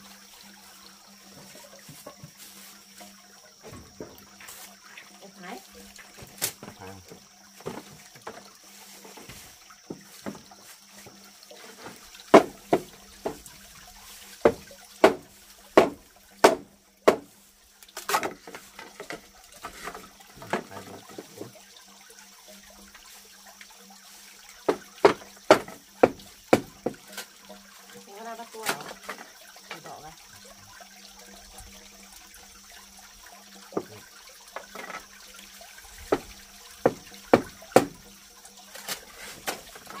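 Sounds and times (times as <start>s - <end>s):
water splashing in basin: 0.0s - 40.0s.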